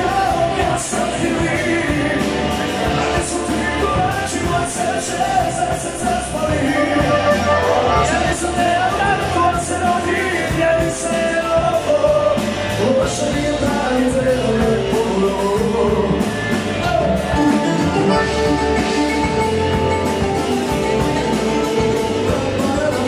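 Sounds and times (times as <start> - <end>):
person singing: 0.0 - 19.7, 20.8 - 23.0
live band playing dance music: 0.0 - 23.0.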